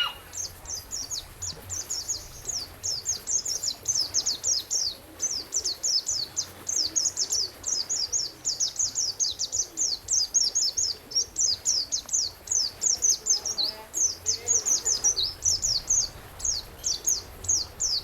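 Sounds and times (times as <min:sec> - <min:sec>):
songbird singing whistled notes: 0:00.0 - 0:18.0.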